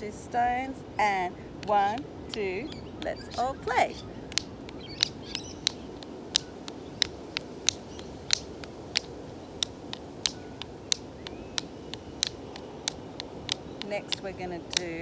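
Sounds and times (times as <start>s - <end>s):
quieter irregular stone clicks: 1.5s - 15.0s
stones clicking in a steady beat: 1.6s - 15.0s.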